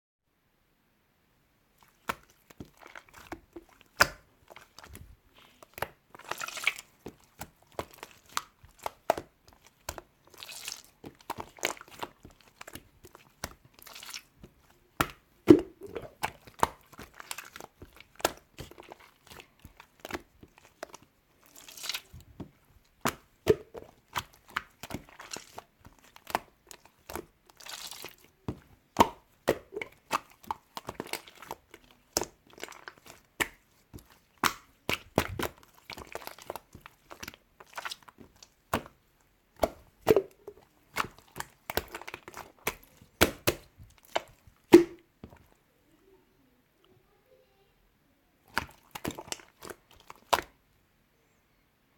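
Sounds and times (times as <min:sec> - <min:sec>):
crinkling and rustling: 0:01.8 - 0:45.6, 0:48.5 - 0:50.6.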